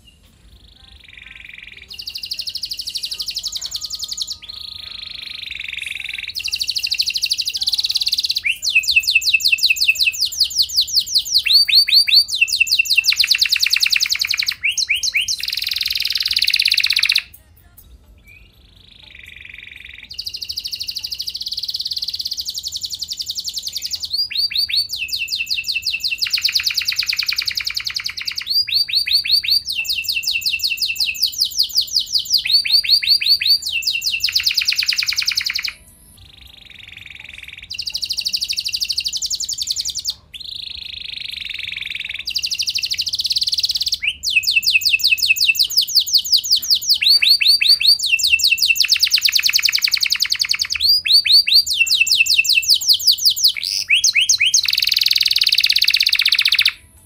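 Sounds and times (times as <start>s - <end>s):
canary singing fast trills: 0.0s - 17.4s, 18.2s - 57.0s.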